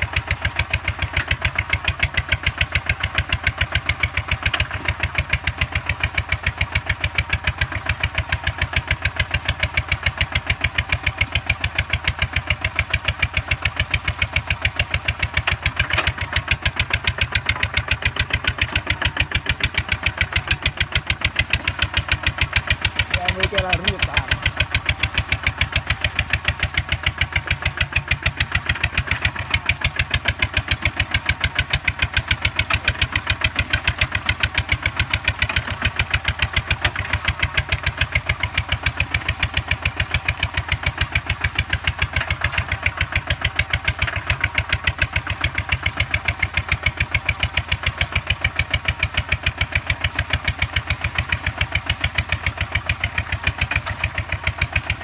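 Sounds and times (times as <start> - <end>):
diesel tractor engine chugging: 0.0 - 55.0.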